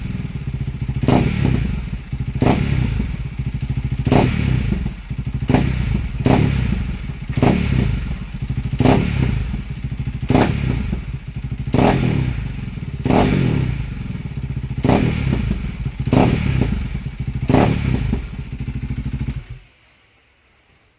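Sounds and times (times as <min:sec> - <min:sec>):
motorcycle engine idling and revving: 0:00.0 - 0:19.8.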